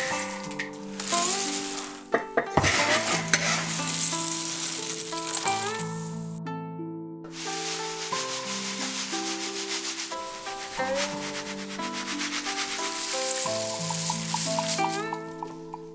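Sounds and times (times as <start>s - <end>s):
dry seeds rattling and pouring: 0.0s - 6.4s, 7.3s - 15.9s
background music: 0.0s - 15.9s.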